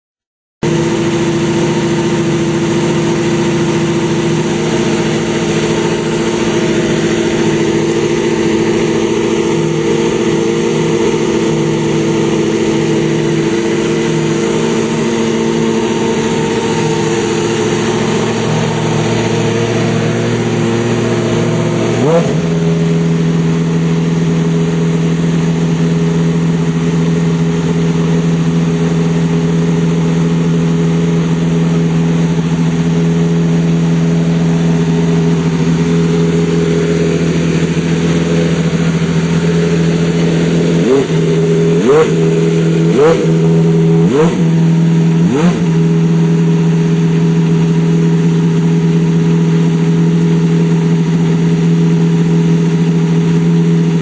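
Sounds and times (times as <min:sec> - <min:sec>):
race car engine idling: 0:00.6 - 0:54.0.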